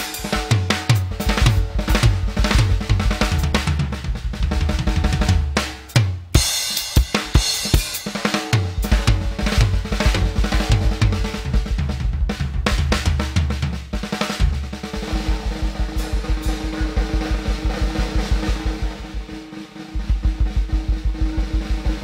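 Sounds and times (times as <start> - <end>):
drum kit playing: 0.0 - 22.0.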